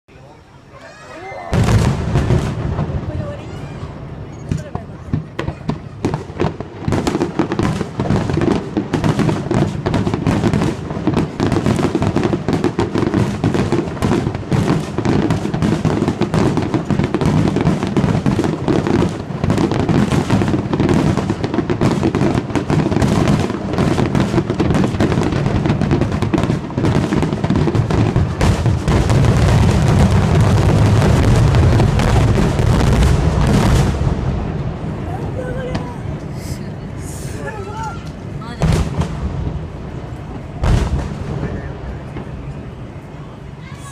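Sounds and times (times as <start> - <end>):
fireworks bursting and crackling: 0.1 - 43.9
low firework booms: 1.5 - 43.9.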